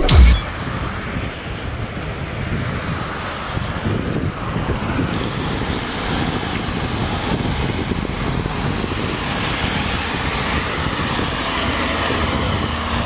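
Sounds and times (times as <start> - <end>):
road traffic rush: 0.0 - 13.0
wind buffeting microphone: 0.5 - 13.0.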